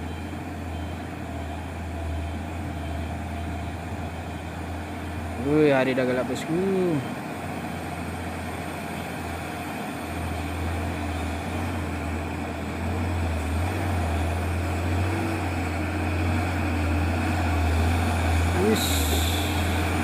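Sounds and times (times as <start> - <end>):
heavy truck engine rumbling: 0.0 - 20.0
road noise: 0.0 - 20.0.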